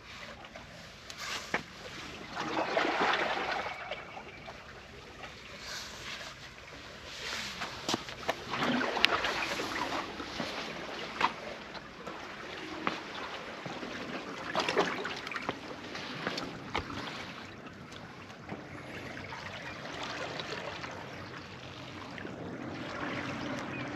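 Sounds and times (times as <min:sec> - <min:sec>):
seawater lapping on concrete: 0:00.0 - 0:23.9.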